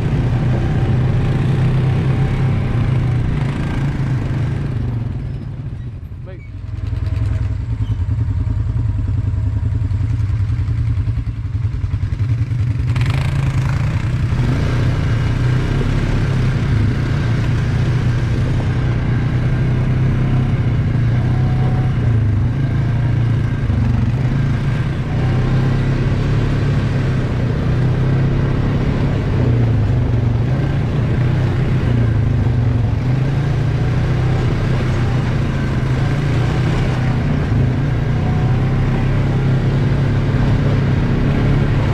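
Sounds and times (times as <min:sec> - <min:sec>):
quad engine running: 0:00.0 - 0:41.9.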